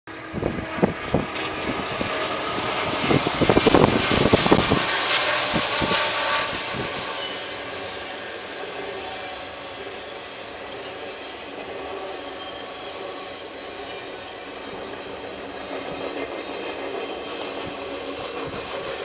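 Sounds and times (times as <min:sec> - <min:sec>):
locomotive engine noise: 0:00.1 - 0:19.0
wheels clacking on rails: 0:00.1 - 0:19.0.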